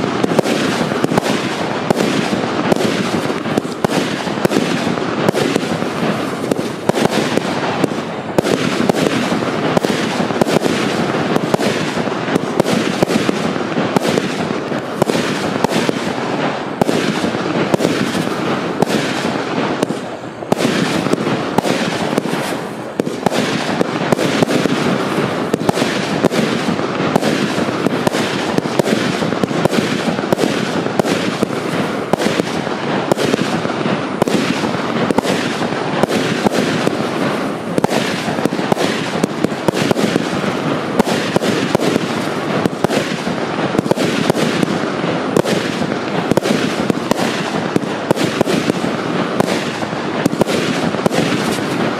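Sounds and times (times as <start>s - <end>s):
fireworks barrage: 0.0s - 51.9s.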